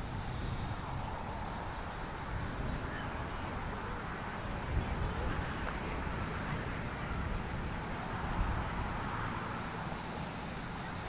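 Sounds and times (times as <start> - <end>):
distant road traffic: 0.0 - 11.0
wind rumbling on microphone: 0.0 - 11.0.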